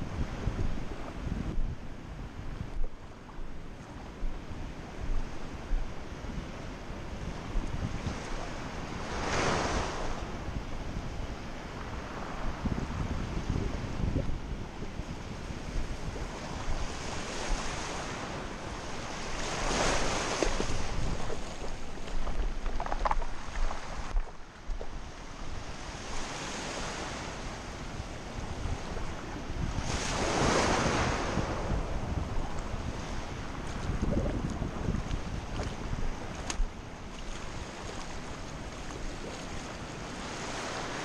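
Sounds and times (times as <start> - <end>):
wind on microphone: 0.0 - 41.0
small waves washing on sand: 2.6 - 41.0.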